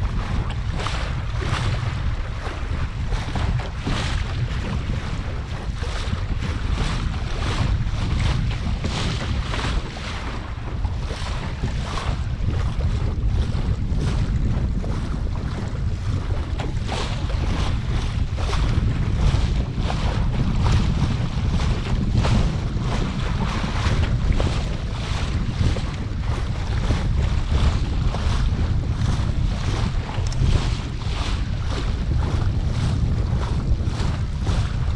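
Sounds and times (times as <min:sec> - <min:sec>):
water splashing against hull: 0:00.0 - 0:34.9
wind buffeting microphone: 0:00.0 - 0:34.9.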